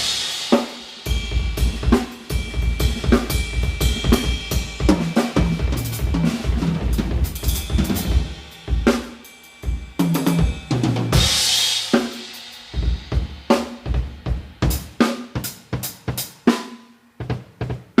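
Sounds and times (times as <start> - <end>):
cymbal crash: 0.0 - 15.0
drum kit playing: 0.0 - 18.0.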